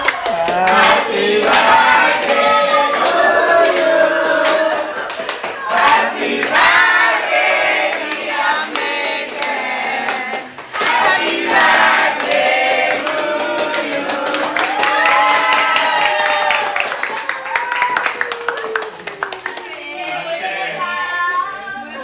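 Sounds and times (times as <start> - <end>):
group singing birthday song: 0.0 - 15.4, 19.5 - 22.0
people clapping along: 0.0 - 20.5.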